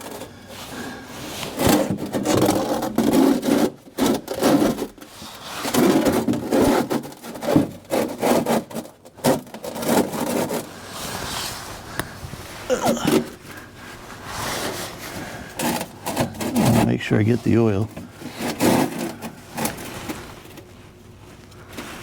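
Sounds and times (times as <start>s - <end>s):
tools scraping and rubbing: 0.0s - 20.7s.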